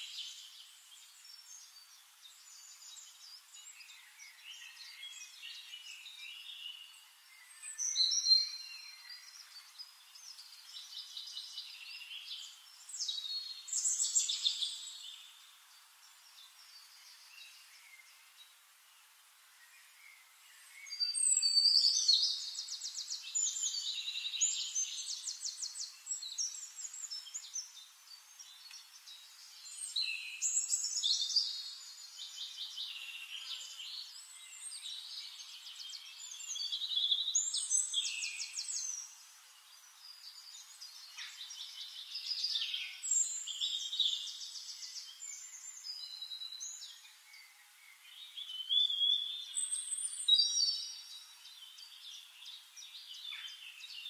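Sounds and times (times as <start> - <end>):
songbird trills and whistles: 0.0 - 15.4, 19.6 - 39.2, 39.8 - 54.0
faint steady hiss: 0.0 - 54.0.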